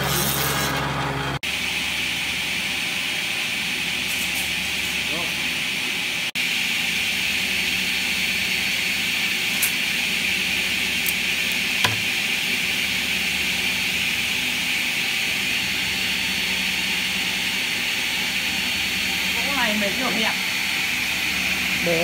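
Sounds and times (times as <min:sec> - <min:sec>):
workshop machinery whirring: 0:00.0 - 0:22.0.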